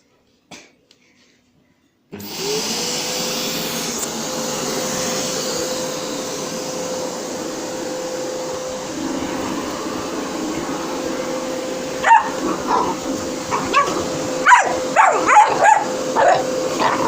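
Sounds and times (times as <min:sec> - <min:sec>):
vacuum cleaner motor whine: 0:02.1 - 0:17.0.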